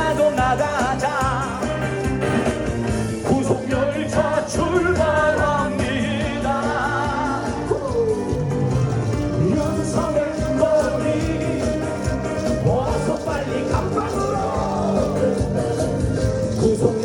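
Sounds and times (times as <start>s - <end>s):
person singing: 0.0s - 2.2s, 3.2s - 8.8s, 9.4s - 17.0s
amplified band backing track: 0.0s - 17.0s.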